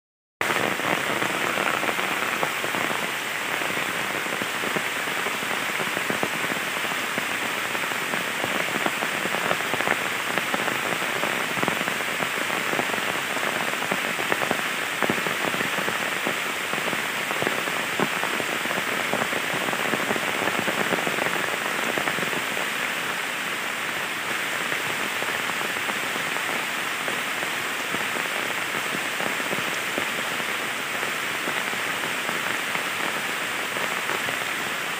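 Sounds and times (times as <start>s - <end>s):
heavy rain falling on water: 0.4s - 34.9s.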